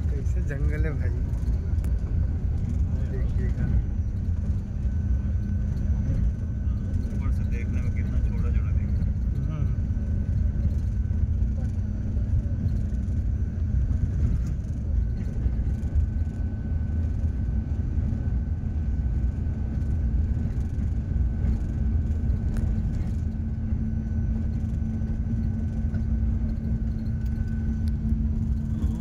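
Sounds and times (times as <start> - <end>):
faint steady whine: 0.0 - 29.0
road and engine rumble: 0.0 - 29.0.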